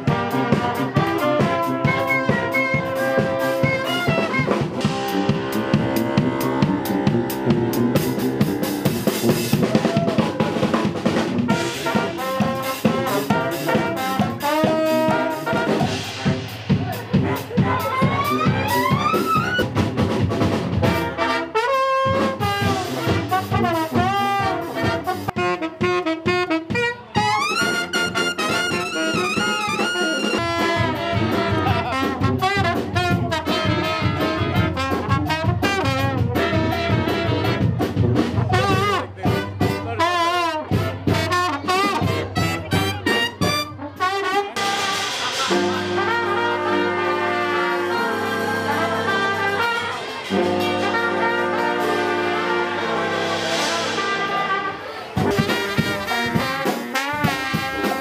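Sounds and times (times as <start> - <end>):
brass band playing jazz: 0.0 - 58.0.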